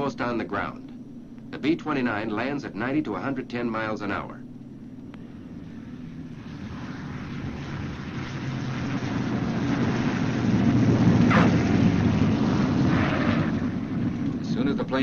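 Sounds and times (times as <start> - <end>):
aircraft radial engines rumbling: 0.0 - 15.0.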